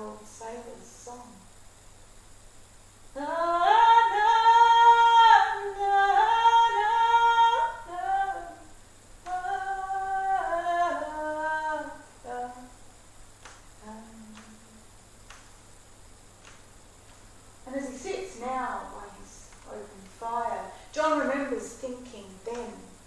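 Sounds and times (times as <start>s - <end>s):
woman singing unaccompanied: 0.0s - 1.6s, 3.1s - 15.0s, 17.6s - 23.0s.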